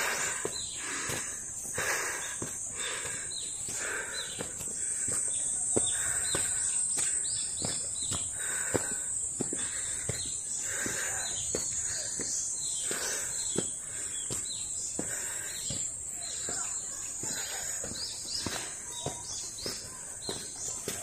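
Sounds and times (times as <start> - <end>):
high insect drone: 0.0 - 18.8
birds chirping: 0.0 - 21.0
footsteps on stone path: 0.0 - 21.0.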